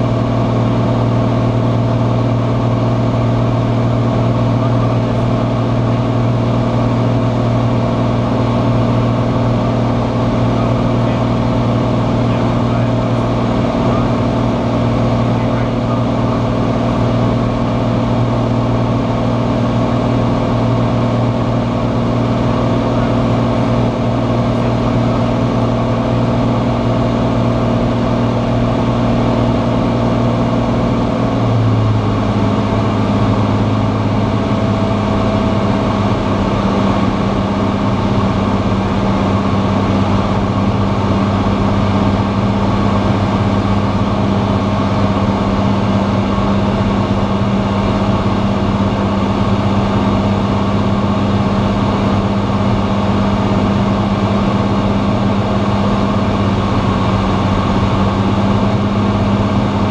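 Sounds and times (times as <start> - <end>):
aircraft engine and propeller droning: 0.0 - 59.9.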